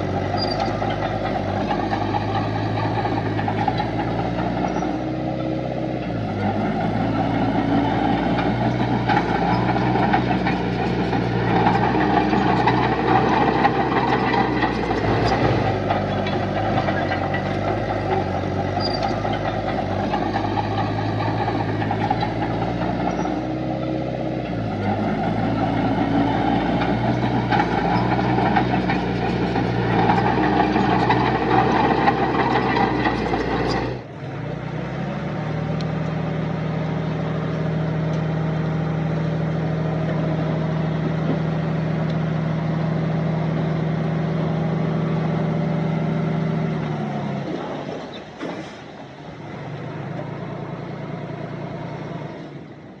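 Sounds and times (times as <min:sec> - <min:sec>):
heavy machinery diesel engines: 0:00.0 - 0:53.0.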